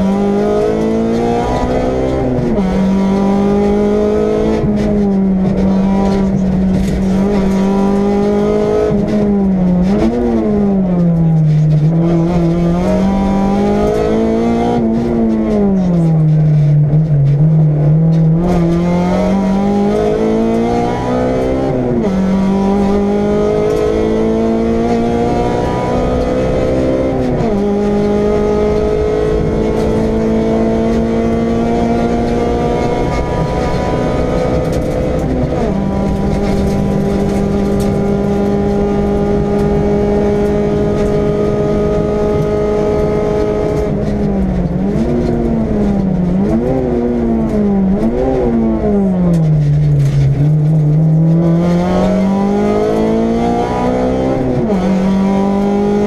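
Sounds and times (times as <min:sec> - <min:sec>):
car engine at full throttle: 0:00.0 - 0:56.0.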